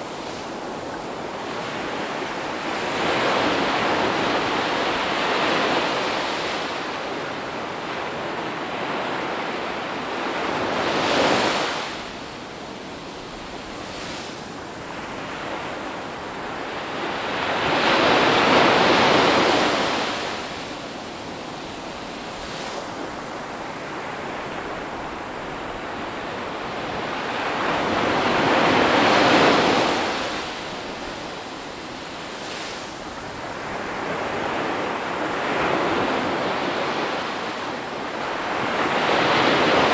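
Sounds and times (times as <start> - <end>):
ocean surf washing on shore: 0.0 - 39.9.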